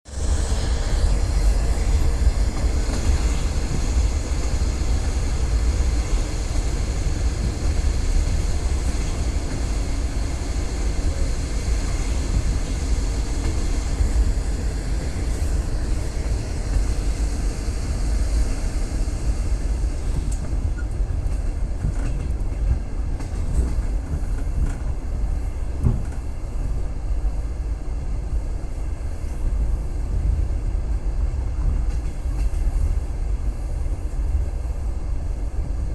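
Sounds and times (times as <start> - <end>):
train wheels rumbling on rails: 0.1 - 35.9.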